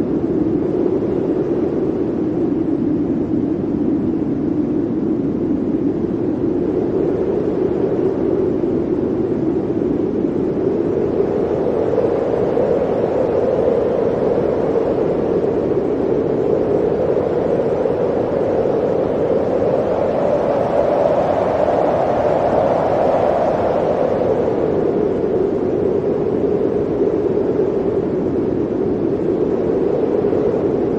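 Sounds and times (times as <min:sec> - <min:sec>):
blizzard wind rushing: 0:00.0 - 0:30.9.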